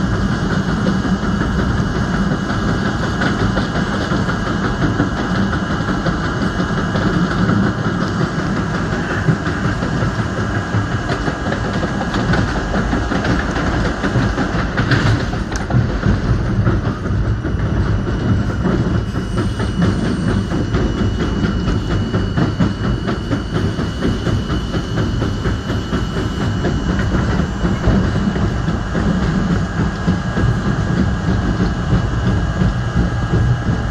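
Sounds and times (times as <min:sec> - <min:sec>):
subway train rumble: 0:00.0 - 0:33.9.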